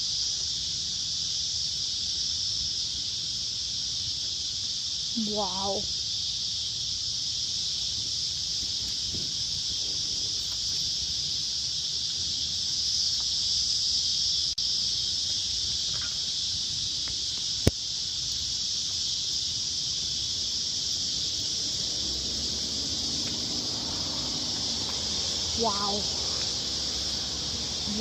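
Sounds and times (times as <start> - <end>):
insect chorus: 0.0 - 28.0.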